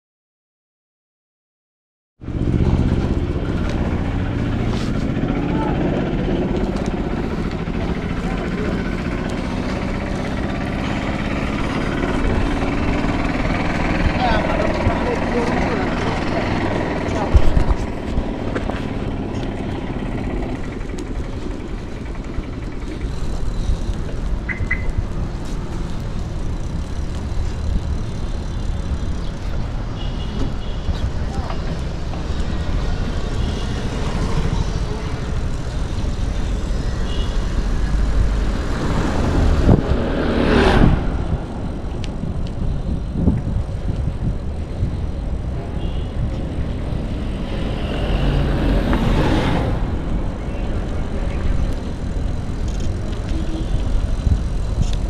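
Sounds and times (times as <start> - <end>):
low rumble of road noise: 2.2 - 55.0
vehicle engine running: 2.2 - 55.0.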